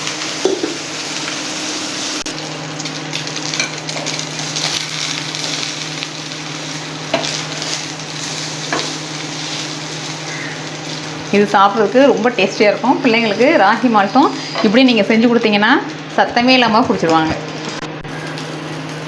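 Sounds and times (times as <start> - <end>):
bread sizzling in oil: 0.0 - 16.6, 18.1 - 19.0
low steady hum: 1.6 - 19.0.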